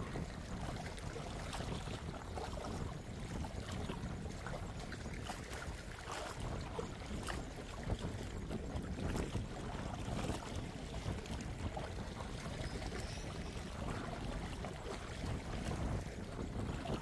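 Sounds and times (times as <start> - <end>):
sea water sloshing and lapping: 0.0 - 17.0
wind rumble on microphone: 0.0 - 17.0.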